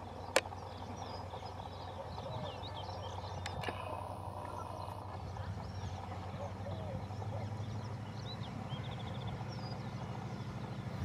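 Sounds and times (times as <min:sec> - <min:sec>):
diesel locomotive engine drone: 0:00.0 - 0:11.0
small birds chirping: 0:00.0 - 0:11.0.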